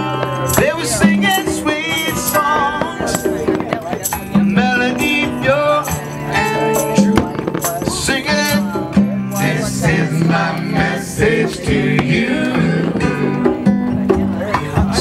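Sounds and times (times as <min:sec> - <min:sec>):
band music with singing: 0:00.0 - 0:15.0.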